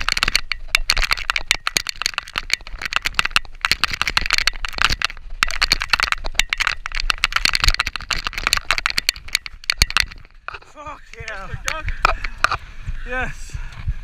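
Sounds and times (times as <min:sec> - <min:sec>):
mountain bike rattling: 0:00.0 - 0:12.7.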